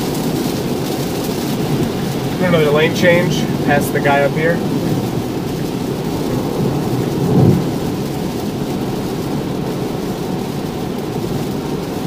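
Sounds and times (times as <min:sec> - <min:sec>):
rain on car: 0:00.0 - 0:12.0
tyres rumbling on wet road: 0:00.0 - 0:12.0.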